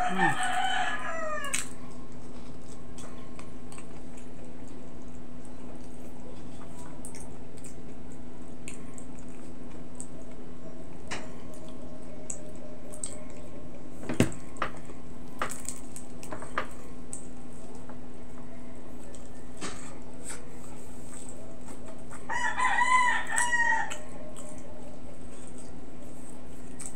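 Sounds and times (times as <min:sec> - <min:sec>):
steady low hum: 0:00.0 - 0:26.9
squishy chewing: 0:01.4 - 0:26.9.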